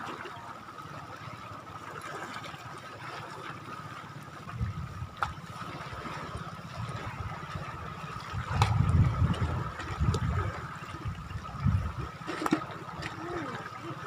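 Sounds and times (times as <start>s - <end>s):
water lapping at shoreline: 0.0s - 14.0s.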